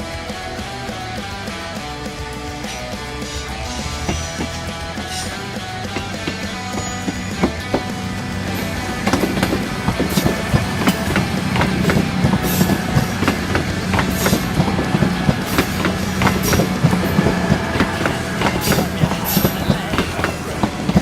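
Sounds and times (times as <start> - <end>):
train wheels clicking over joints: 1.0 - 21.0.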